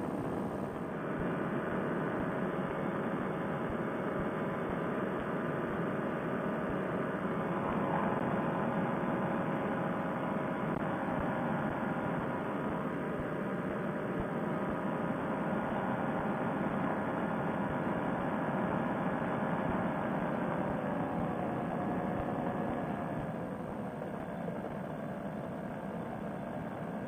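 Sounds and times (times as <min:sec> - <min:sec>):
paramotor engine running: 0:00.0 - 0:27.0.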